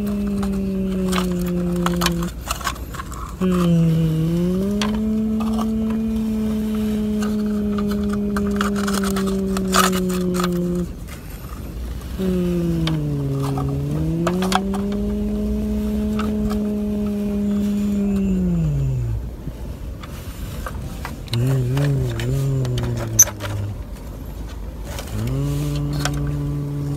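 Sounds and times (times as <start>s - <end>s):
imitated engine drone: 0.0s - 20.6s, 21.2s - 26.9s
rocks and dirt scraping: 0.0s - 26.9s.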